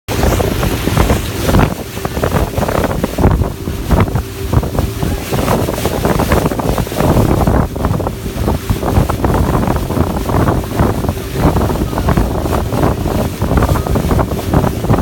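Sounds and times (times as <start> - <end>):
rushing sea water: 0.1 - 15.0
wind buffeting the microphone: 0.1 - 15.0.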